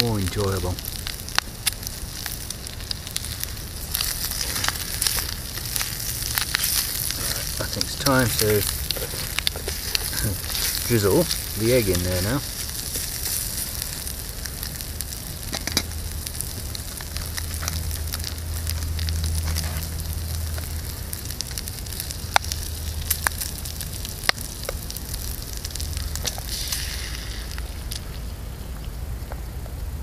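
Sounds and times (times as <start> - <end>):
bacon sizzling in frying pan: 0.0 - 28.2
twig fire crackling: 0.0 - 30.0.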